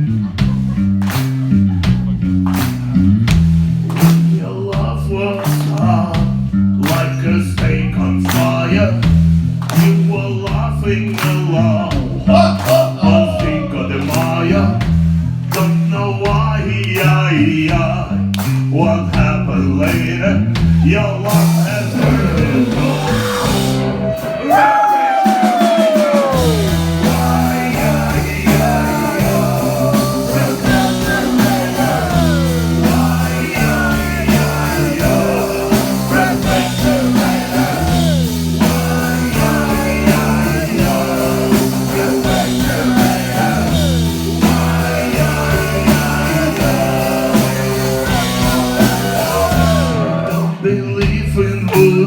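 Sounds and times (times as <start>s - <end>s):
live rock band playing: 0.0s - 16.4s, 17.0s - 52.0s
bass line: 0.0s - 52.0s.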